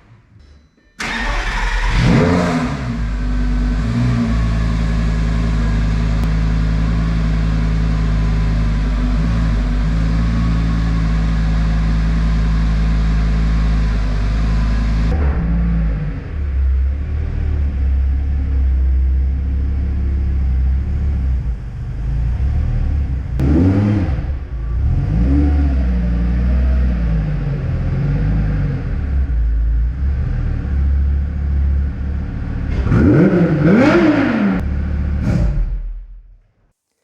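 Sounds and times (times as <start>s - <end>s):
sports car engine revving: 1.0s - 10.5s, 11.2s - 35.9s.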